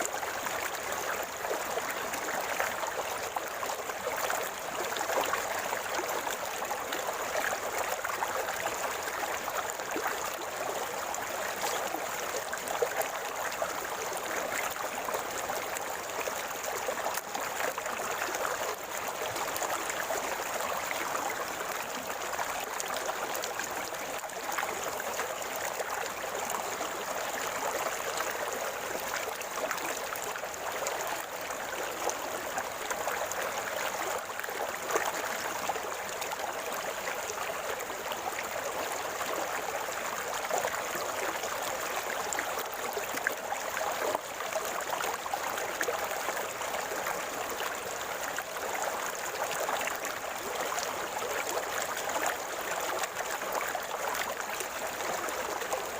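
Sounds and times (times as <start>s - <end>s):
river water babbling over stones: 0.0s - 55.9s.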